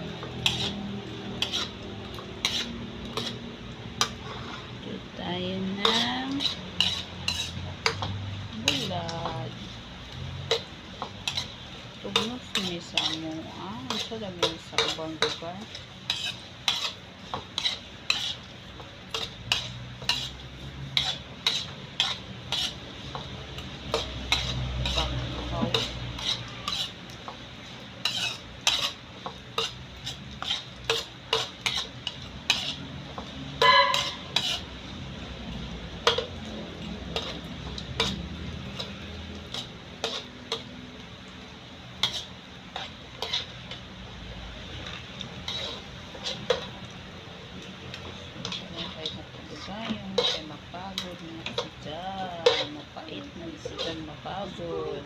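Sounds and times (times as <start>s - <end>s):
metal ladle scraping a wok: 0.0s - 9.8s, 10.4s - 40.8s, 41.8s - 43.9s, 44.6s - 55.0s
light sizzle: 0.0s - 55.0s.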